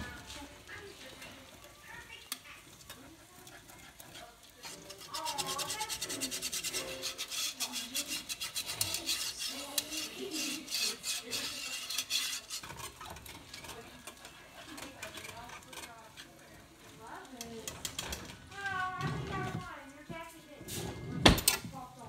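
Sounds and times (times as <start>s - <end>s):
utensil scraping in a pan: 0.0s - 22.0s.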